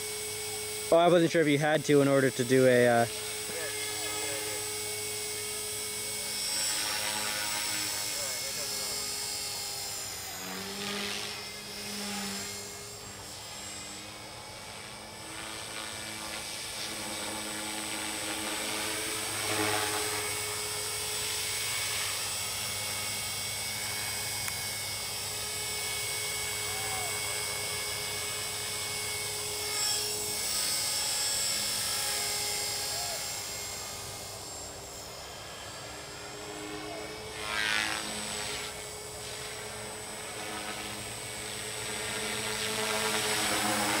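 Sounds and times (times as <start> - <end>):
rc helicopter whine: 0.0 - 44.0.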